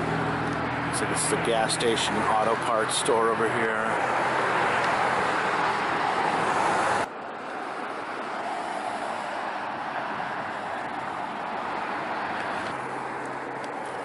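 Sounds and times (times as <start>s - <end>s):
road traffic rush: 0.0s - 14.0s.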